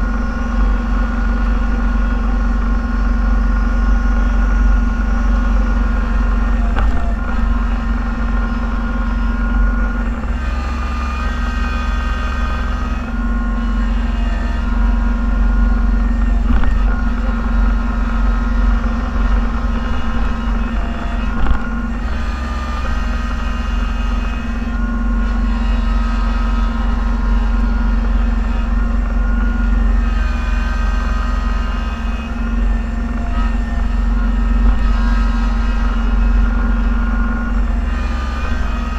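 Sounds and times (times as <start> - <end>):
snowplow engine running: 0.0 - 38.9
whining tones: 0.0 - 38.9.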